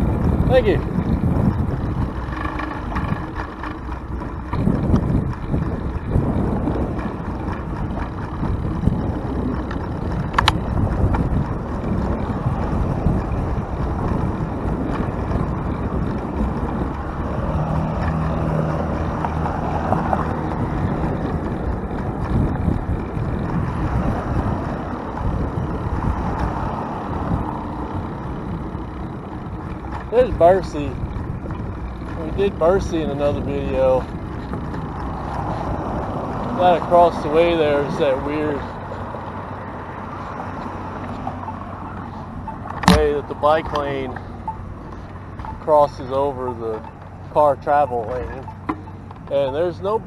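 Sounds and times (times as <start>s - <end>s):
road traffic noise: 0.0s - 50.0s
wind rush on microphone: 0.0s - 50.0s.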